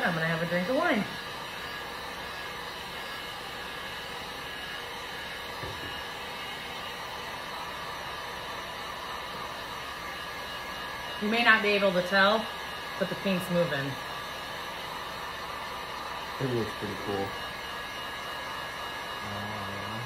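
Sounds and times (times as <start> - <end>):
heat gun blowing air: 0.0 - 20.0.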